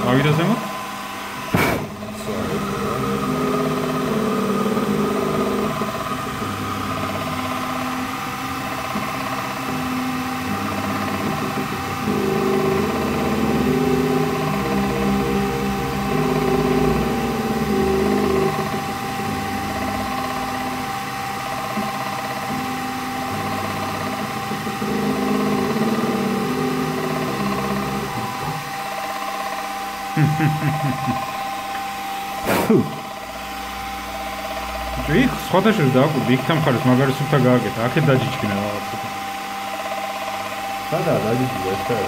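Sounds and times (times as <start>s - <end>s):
milling machine whining: 0.0s - 42.0s
motors humming: 0.0s - 42.0s.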